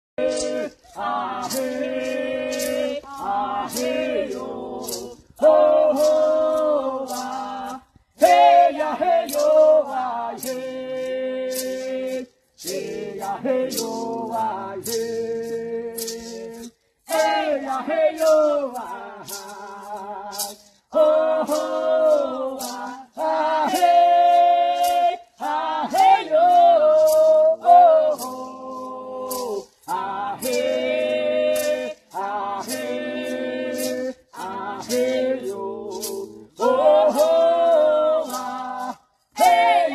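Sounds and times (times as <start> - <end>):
rattle shaken in a beat: 0.2 - 39.9
voices singing a chant: 0.2 - 39.9.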